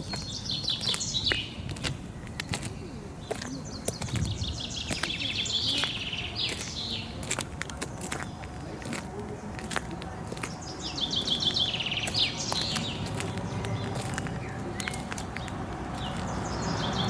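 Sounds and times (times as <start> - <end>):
songbird singing trills: 0.0 - 17.0.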